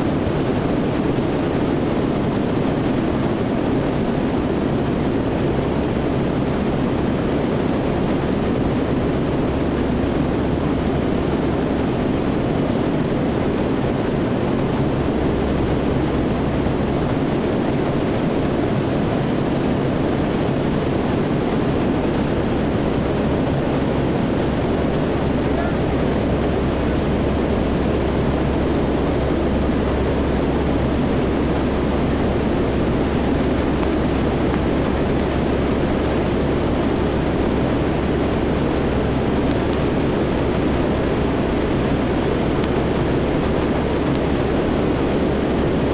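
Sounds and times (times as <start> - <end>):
turboprop aircraft engines droning: 0.0 - 45.9.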